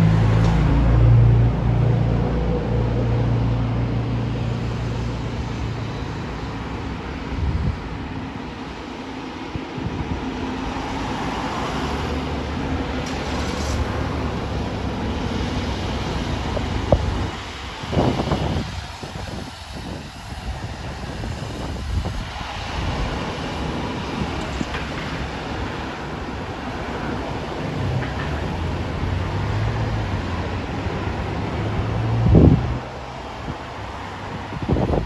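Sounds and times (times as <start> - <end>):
low engine rumble: 0.0 - 8.8, 9.8 - 35.0.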